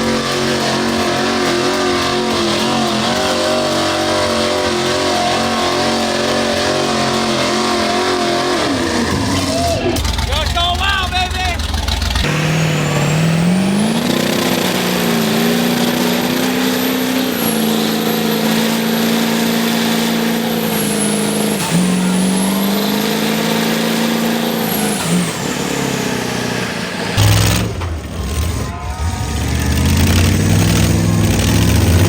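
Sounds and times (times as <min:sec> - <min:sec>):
truck engine at high revs: 0:00.0 - 0:32.0.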